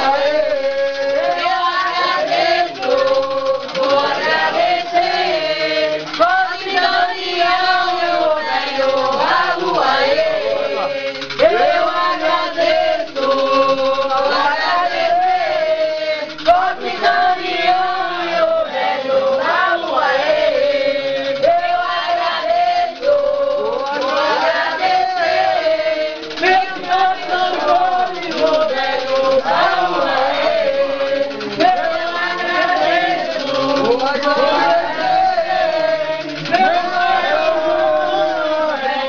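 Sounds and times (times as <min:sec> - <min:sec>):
group singing a chant: 0:00.0 - 0:39.0.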